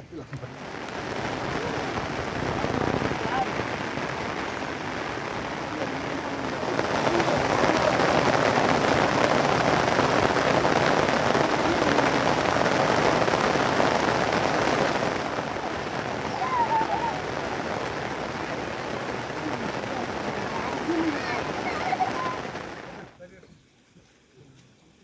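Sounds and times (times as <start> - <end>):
heavy rain falling: 0.1 - 23.2.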